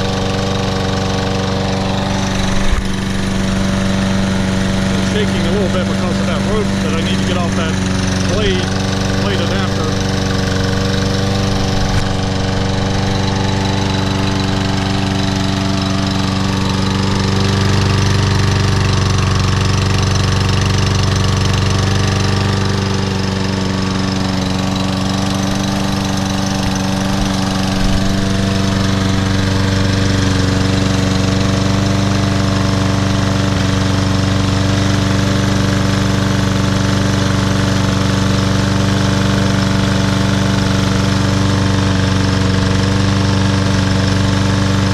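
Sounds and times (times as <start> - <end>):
lawn mower engine running: 0.0 - 44.9
mower shaking: 0.0 - 44.9.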